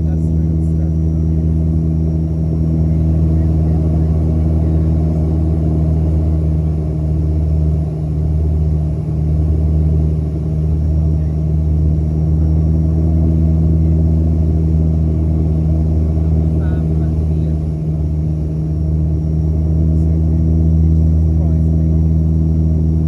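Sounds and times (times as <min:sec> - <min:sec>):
turboprop cabin drone: 0:00.0 - 0:23.0.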